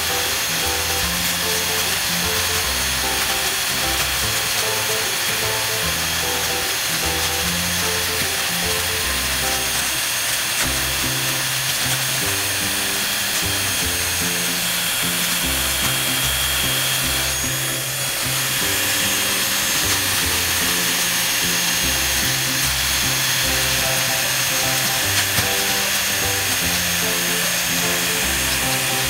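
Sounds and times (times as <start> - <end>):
background music with bass: 0.0 - 10.0, 10.6 - 29.0
handheld vacuum running: 0.0 - 29.0.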